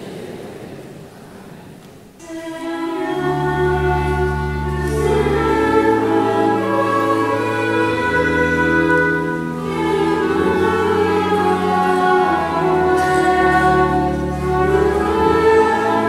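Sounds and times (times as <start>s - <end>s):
organ trumpet and saxophone chords: 2.3s - 16.0s.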